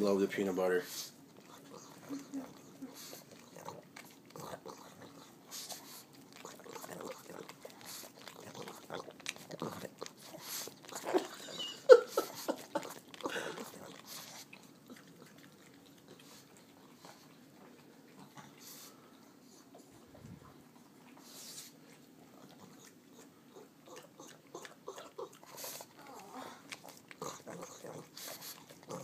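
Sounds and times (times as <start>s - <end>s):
dog licking and lip smacking: 1.0s - 29.0s.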